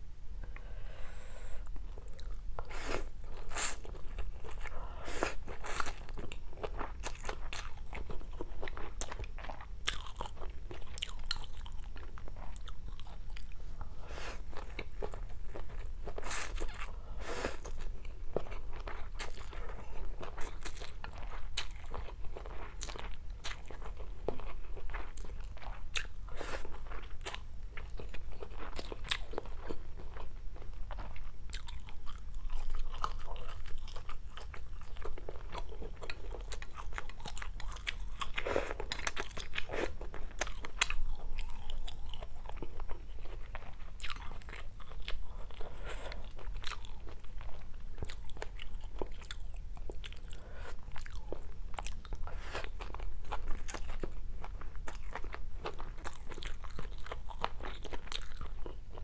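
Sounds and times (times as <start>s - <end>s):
person chewing food: 1.4s - 59.0s.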